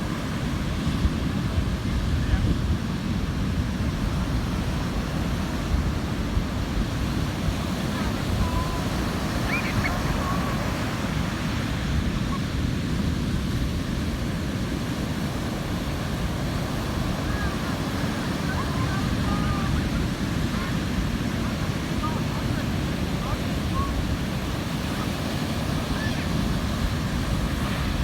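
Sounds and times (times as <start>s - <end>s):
ocean surf washing on beach: 0.0s - 28.0s
wind buffeting microphone: 0.0s - 28.0s.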